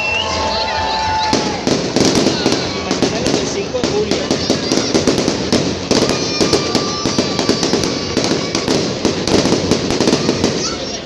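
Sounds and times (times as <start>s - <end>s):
firework whistle: 0.0s - 11.0s
fireworks crackling and banging: 0.0s - 11.0s.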